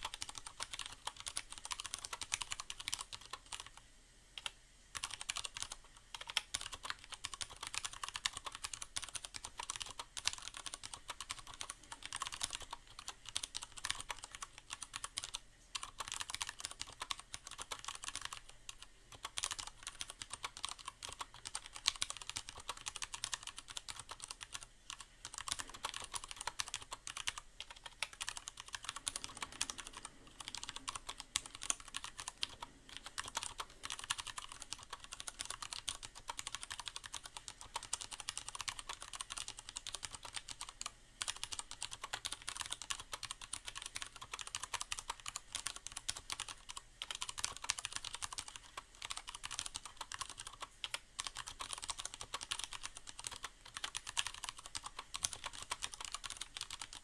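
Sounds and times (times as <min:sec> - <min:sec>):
fast mechanical keyboard typing: 0:00.0 - 0:03.8, 0:04.4 - 0:57.0.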